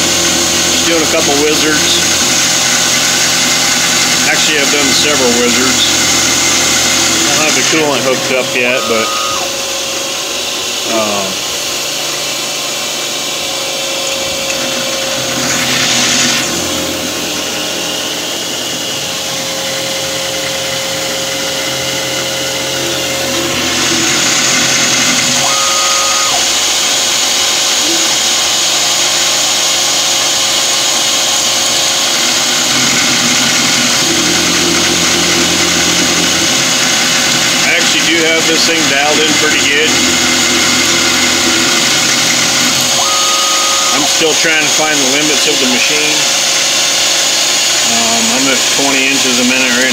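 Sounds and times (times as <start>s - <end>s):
axis drives humming: 0.0s - 49.9s
milling machine cutting: 0.0s - 49.9s.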